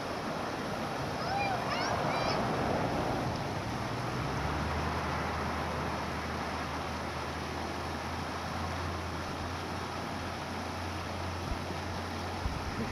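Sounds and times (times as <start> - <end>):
creek rushing over stones: 0.0 - 12.9.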